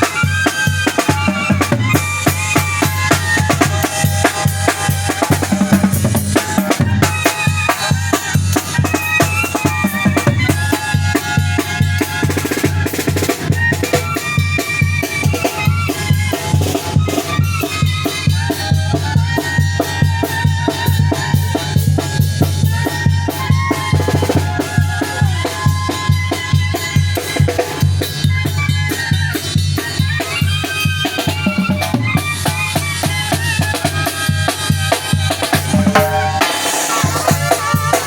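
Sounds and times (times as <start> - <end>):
bass drum and cymbal beat: 0.0 - 38.0
saxophones and trumpets melody: 0.0 - 38.0.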